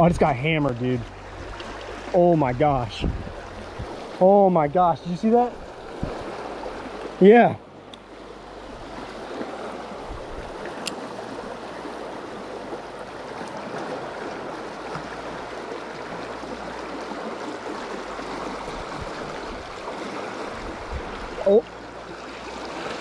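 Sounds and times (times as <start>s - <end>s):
water rushing through spillway: 0.0s - 23.0s.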